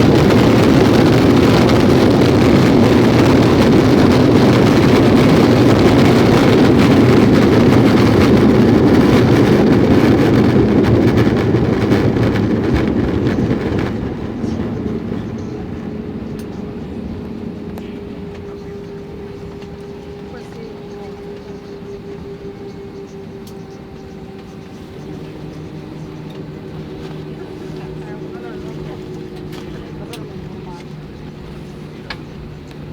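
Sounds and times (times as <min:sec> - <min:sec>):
aircraft engines and wheels rumbling: 0:00.0 - 0:32.9
steady hum: 0:00.0 - 0:32.9.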